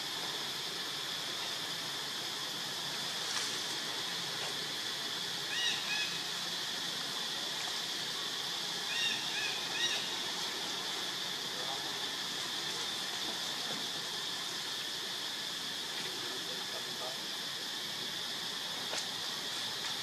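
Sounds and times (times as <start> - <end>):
forest insects droning: 0.0 - 20.0.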